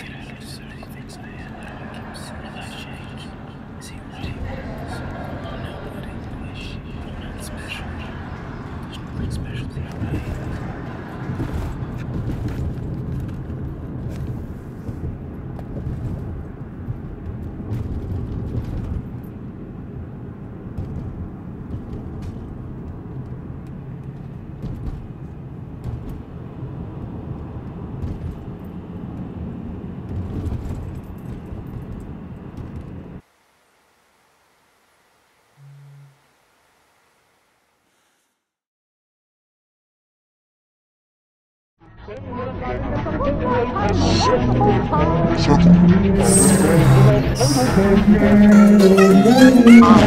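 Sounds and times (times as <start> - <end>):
car rumble inside cabin: 0.0 - 33.2, 42.9 - 50.0.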